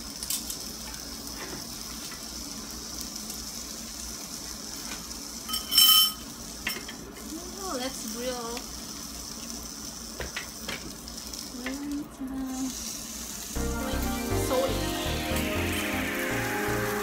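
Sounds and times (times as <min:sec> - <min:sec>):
food sizzling on grill plate: 0:00.0 - 0:17.0.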